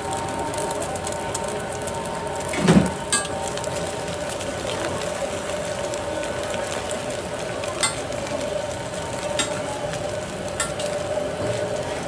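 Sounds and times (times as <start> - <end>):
eggs sizzling on a griddle: 0.0 - 12.0.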